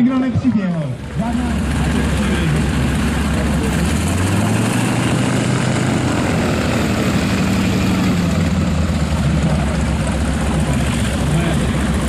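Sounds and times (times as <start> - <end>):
propeller aircraft engine droning: 0.0 - 12.0
dense rushing noise: 0.9 - 12.0.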